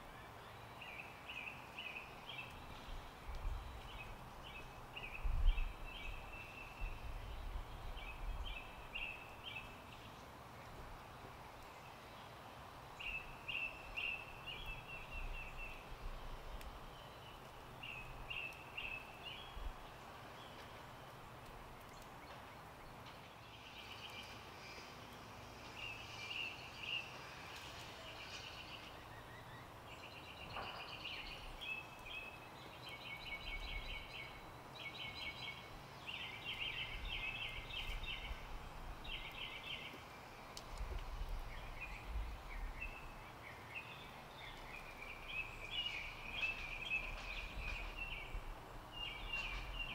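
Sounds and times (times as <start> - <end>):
outdoor background noise: 0.0 - 49.9
songbirds trilling: 0.0 - 49.9.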